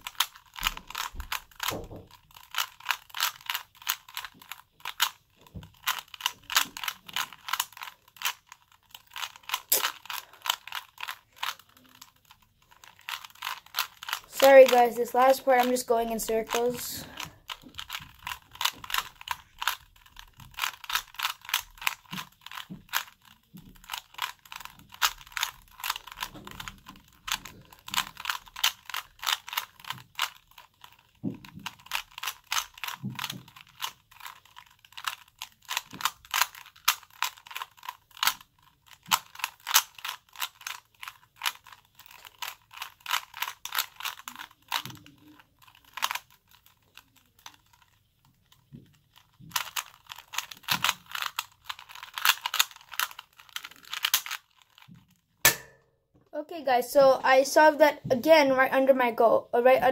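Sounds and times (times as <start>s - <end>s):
puzzle cube clicking: 0.0s - 54.9s.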